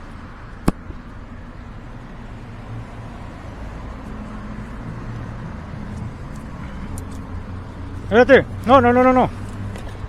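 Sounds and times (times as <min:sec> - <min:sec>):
low rumble of street noise: 0:00.0 - 0:10.0.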